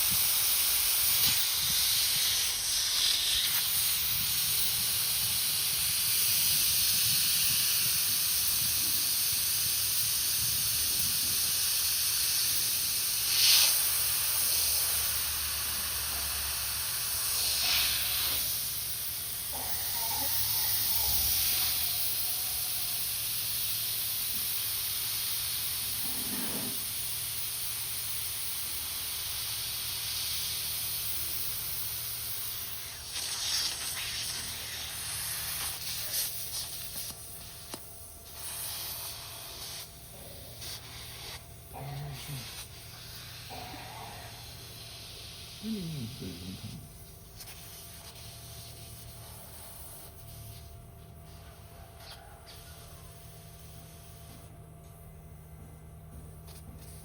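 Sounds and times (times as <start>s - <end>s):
high-pressure air hissing: 0.0s - 54.5s.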